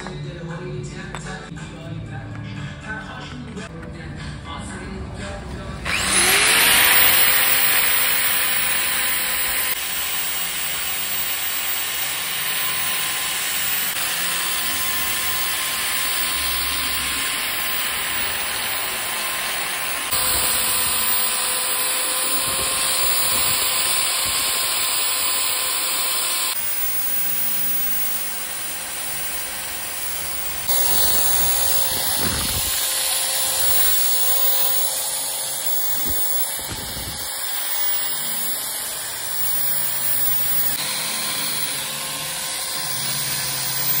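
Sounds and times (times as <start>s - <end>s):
angle grinder whine: 5.7s - 44.0s.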